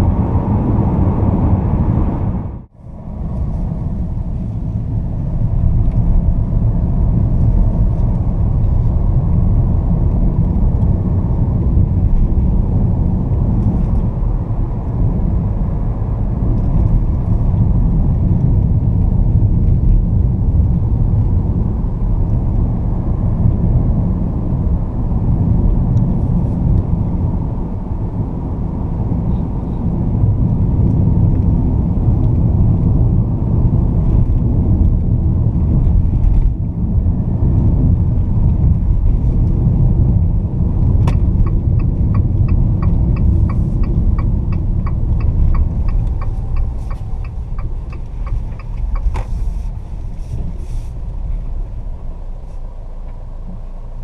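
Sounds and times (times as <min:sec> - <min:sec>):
engine and tyre rumble in cabin: 0:00.0 - 0:54.0.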